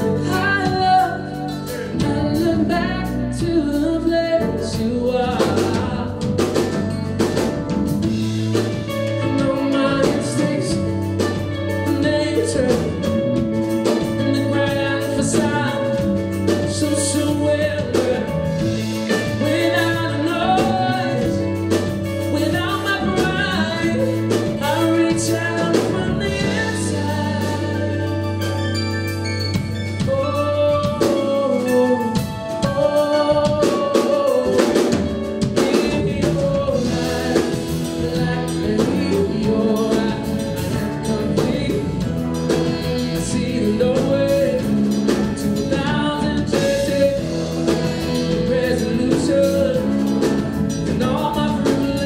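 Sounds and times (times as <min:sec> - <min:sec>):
man singing into a microphone: 0:00.0 - 0:06.9, 0:08.5 - 0:28.9, 0:29.9 - 0:52.0
low held bass notes: 0:00.0 - 0:33.7, 0:34.3 - 0:52.0
acoustic guitar: 0:00.0 - 0:52.0.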